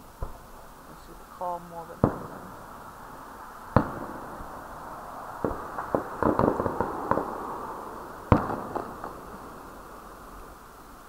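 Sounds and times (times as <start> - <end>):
firework crackling pops: 0.0 - 0.8, 1.8 - 11.0
firework bangs: 1.8 - 10.7.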